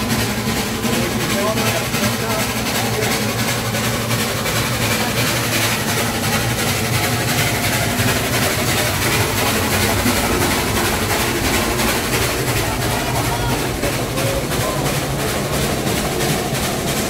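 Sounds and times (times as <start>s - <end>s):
rushing air: 0.0s - 17.0s
steam locomotive running alongside: 0.0s - 17.0s
train wheels rumbling on track: 0.0s - 17.0s.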